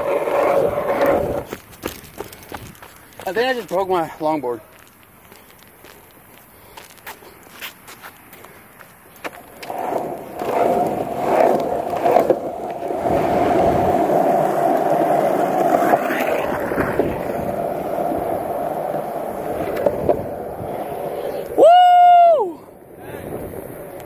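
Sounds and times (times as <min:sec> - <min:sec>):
longboard wheels rolling: 0:00.0 - 0:24.0.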